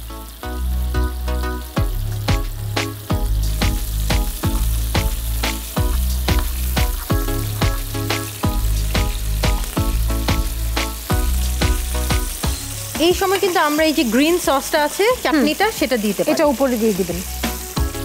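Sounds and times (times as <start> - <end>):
meat sizzling in oil: 0.0 - 18.0
music with quick beat and bass: 1.0 - 14.6, 15.3 - 18.0.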